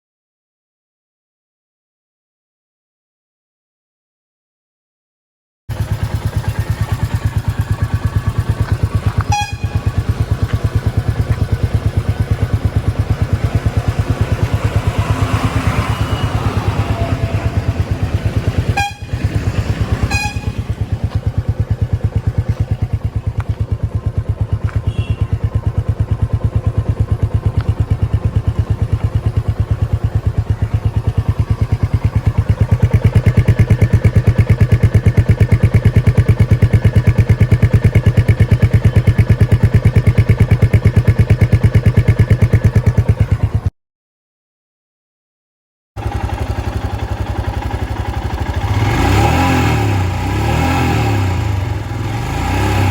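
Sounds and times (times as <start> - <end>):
motorcycle engine running: 5.7 - 43.7, 46.0 - 52.9.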